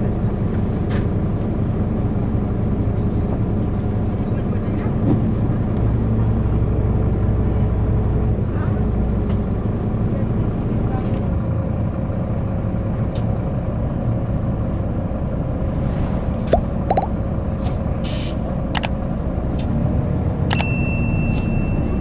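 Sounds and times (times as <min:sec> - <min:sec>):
coach engine and road rumble: 0:00.0 - 0:22.0.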